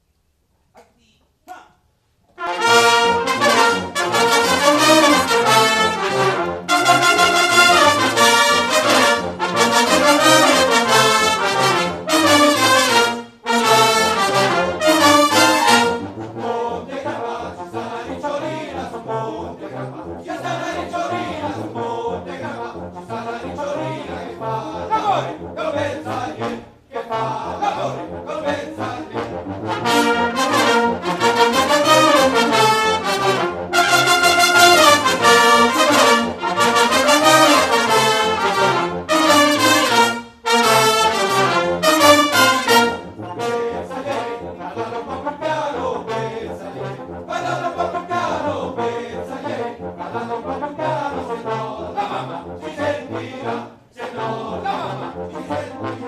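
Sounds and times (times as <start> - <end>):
brass band playing: 2.3 - 56.0.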